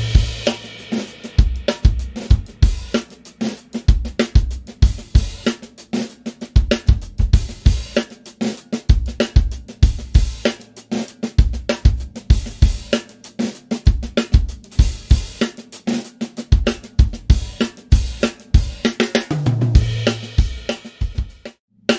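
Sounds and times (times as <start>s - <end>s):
drum kit playing groove: 0.0s - 21.9s.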